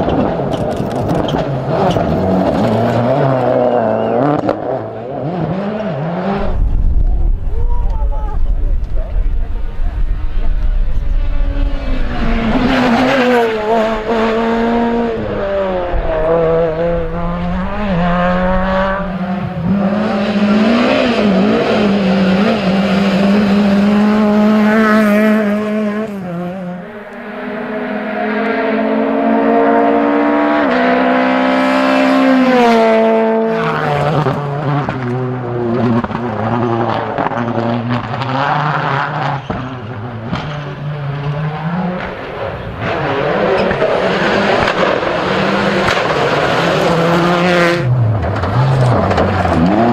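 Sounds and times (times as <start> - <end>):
rally car engine revving: 0.0 - 49.9.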